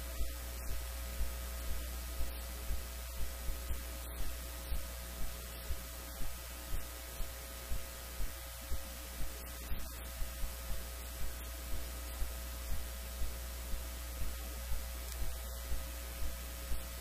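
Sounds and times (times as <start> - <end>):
electrical hum and hiss: 0.0 - 17.0
faint low ticks: 0.1 - 17.0.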